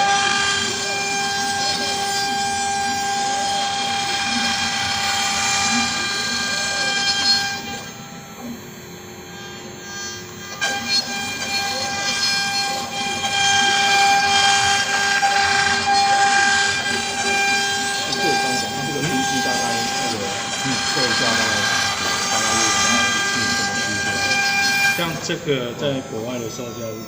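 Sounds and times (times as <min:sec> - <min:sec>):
axis motors whirring: 0:00.0 - 0:27.0
cnc router machining wood: 0:00.0 - 0:27.0
spindle whine: 0:00.0 - 0:27.0.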